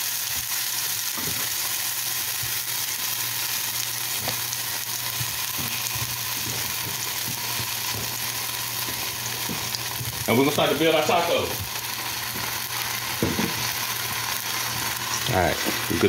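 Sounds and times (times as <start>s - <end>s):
oil popping and crackling: 0.0s - 16.0s
oil sizzling in a skillet: 0.0s - 16.0s.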